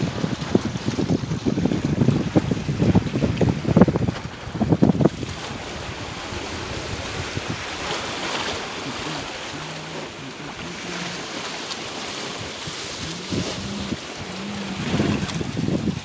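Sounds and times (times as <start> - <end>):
sea surf washing on shore: 0.0 - 16.0
wind buffeting microphone: 0.0 - 16.0.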